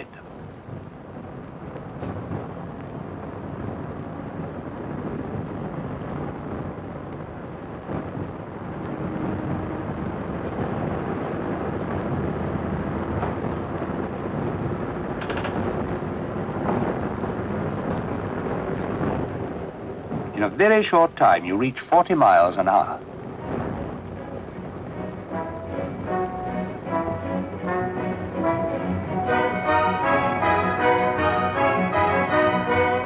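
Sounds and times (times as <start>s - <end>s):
railcar engine rumble: 0.0s - 33.0s.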